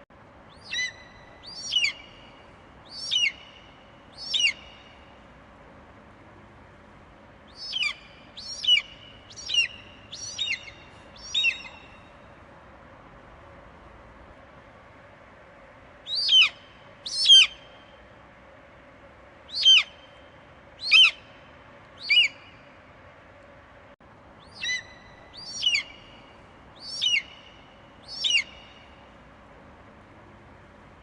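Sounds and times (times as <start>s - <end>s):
faint background hiss: 0.0s - 31.0s.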